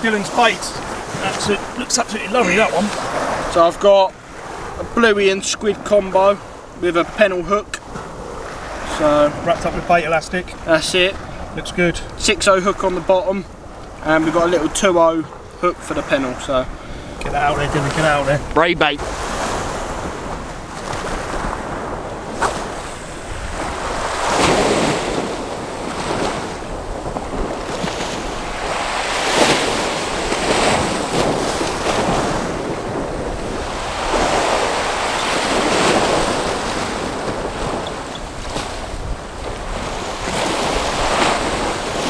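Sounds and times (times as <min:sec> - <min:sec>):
waves breaking against sea wall: 0:00.0 - 0:42.0
wind buffeting microphone: 0:00.0 - 0:42.0.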